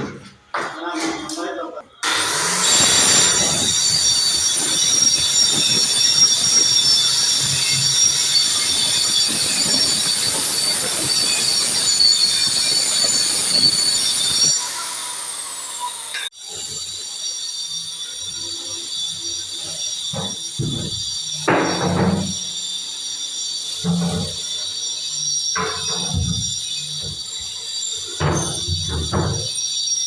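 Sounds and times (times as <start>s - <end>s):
power tool whining squeal: 1.9s - 30.0s.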